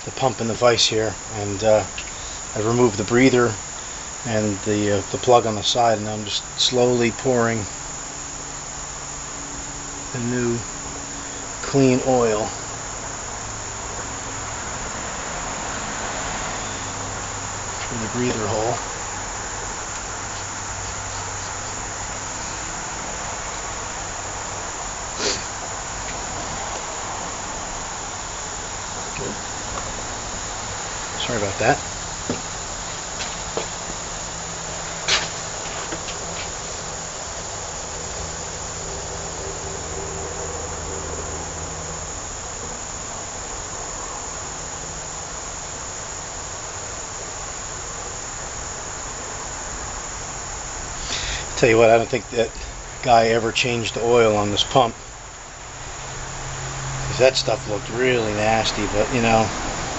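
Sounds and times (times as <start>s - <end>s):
insect buzzing: 0.0s - 59.9s.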